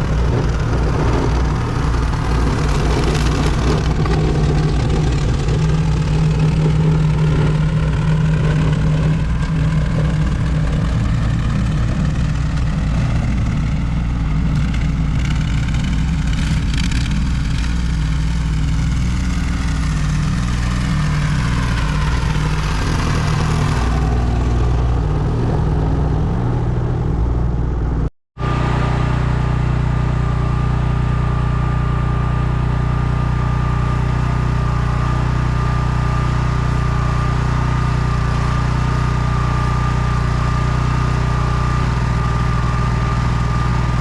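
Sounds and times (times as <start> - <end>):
petrol engine running: 0.0 - 44.0.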